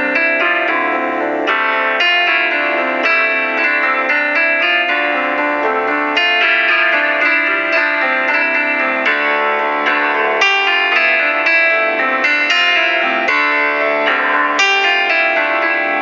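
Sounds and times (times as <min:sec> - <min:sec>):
plucked instrumental melody: 0:00.0 - 0:16.0.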